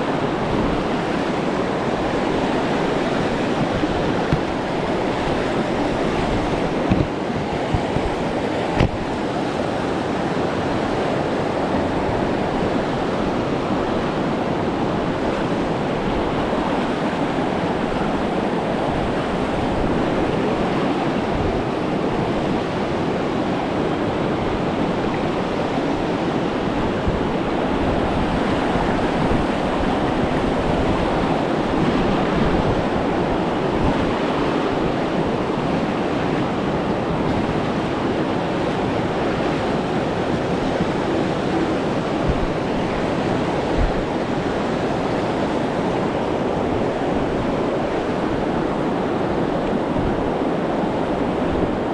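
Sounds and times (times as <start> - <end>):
river water rushing through rapids: 0.0 - 51.9.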